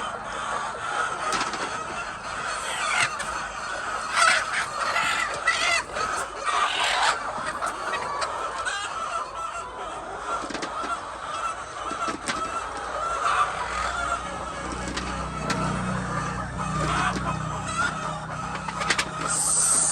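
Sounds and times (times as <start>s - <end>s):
hens clucking and calling: 0.0s - 19.9s.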